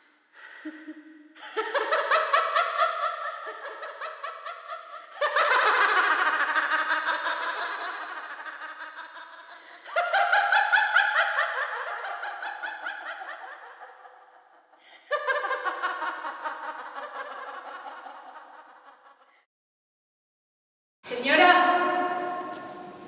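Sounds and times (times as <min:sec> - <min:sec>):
woman laughing hard: 0:00.4 - 0:19.3.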